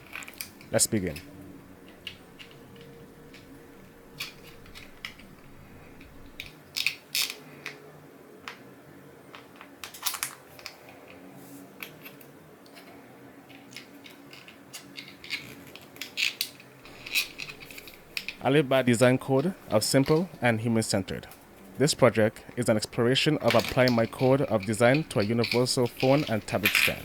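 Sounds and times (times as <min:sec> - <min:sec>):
plastic parts clicking together: 0:00.0 - 0:07.8, 0:09.3 - 0:11.2, 0:11.8 - 0:20.4, 0:23.3 - 0:27.0.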